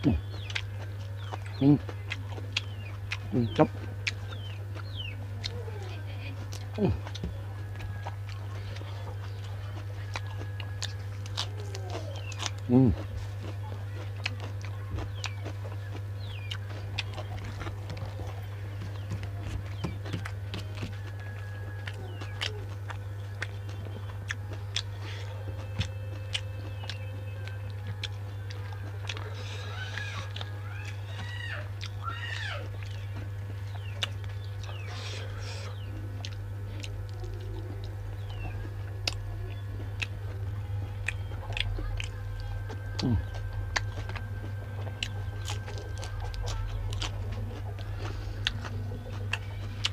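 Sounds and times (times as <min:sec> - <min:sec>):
person chewing food: 0:00.0 - 0:49.9
steady low hum: 0:00.0 - 0:49.9.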